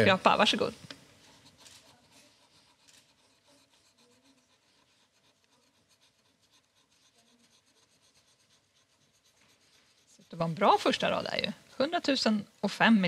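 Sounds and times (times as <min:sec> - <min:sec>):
scraper scratching card: 0:00.5 - 0:11.4.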